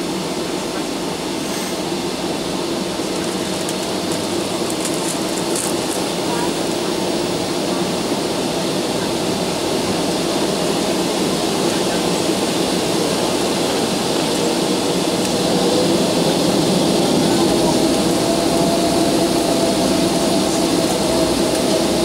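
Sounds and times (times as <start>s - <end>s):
jet engine hum in cabin: 0.0s - 22.0s.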